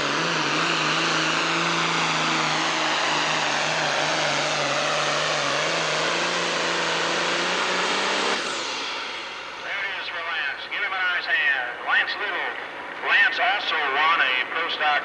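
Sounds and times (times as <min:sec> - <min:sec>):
diesel tractor engine roaring: 0:00.0 - 0:15.0.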